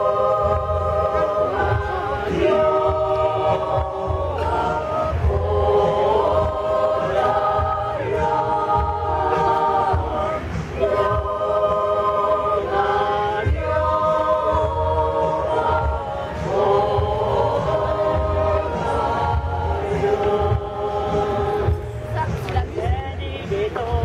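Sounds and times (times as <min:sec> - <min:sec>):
women's choir singing a cappella: 0:00.0 - 0:24.0.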